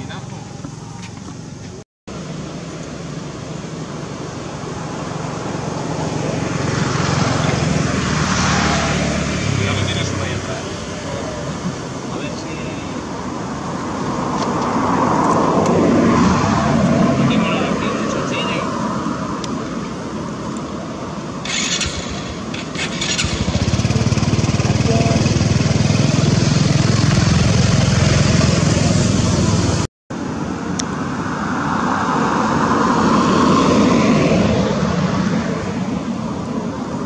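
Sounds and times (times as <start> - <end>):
motor vehicle engine passing: 0.0 - 29.9, 31.0 - 37.0.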